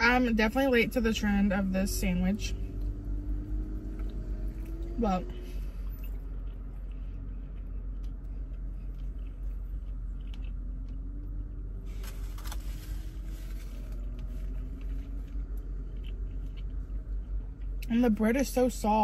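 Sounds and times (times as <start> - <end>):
low rumble in car cabin: 0.0 - 19.0
quiet chewing: 2.6 - 17.9.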